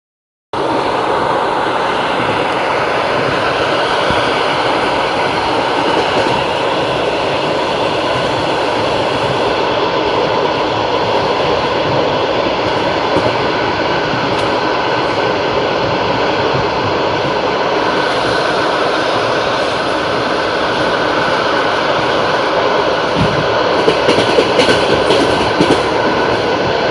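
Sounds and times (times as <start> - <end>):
train wheels clattering on rails: 0.6 - 20.2, 20.8 - 26.9.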